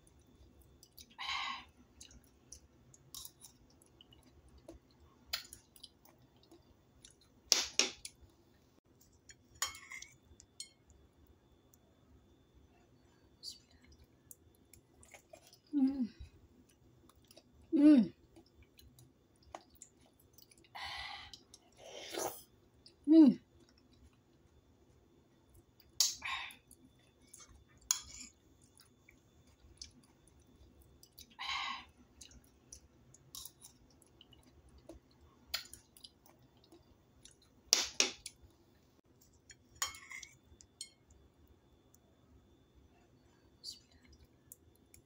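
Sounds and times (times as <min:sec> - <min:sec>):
chewing and wet mouth sounds: 0:00.0 - 0:08.3, 0:12.6 - 0:45.0.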